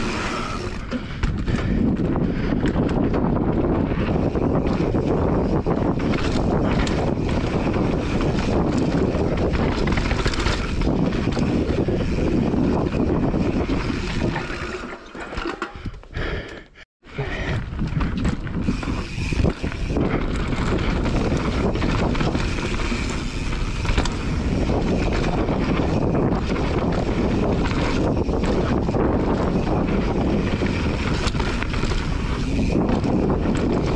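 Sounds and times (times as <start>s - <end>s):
wind buffeting microphone: 0.0s - 14.8s, 17.2s - 33.9s
bike tyres rattling on dirt trail: 0.0s - 16.4s, 17.1s - 33.9s.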